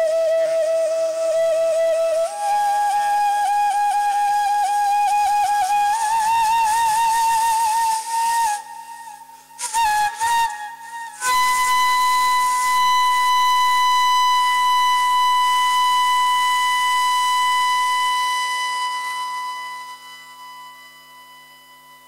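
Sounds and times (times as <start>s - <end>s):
bamboo flute high note: 0.0s - 22.0s.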